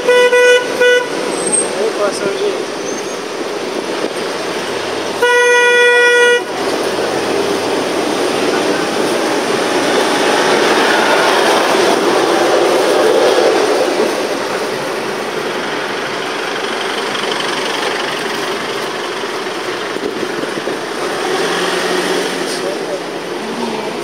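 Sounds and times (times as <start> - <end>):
engine noise: 0.0 - 24.0
wind noise: 0.0 - 24.0.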